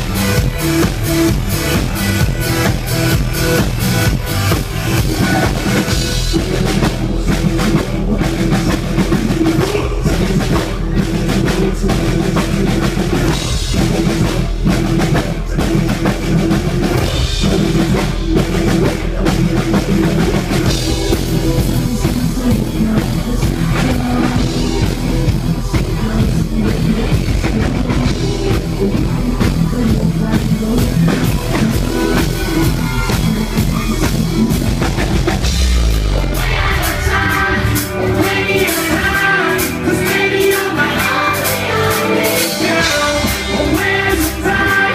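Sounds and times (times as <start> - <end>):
drum kit steady beat: 0.0 - 44.9
electric guitar: 0.0 - 44.9
person singing: 0.0 - 44.9.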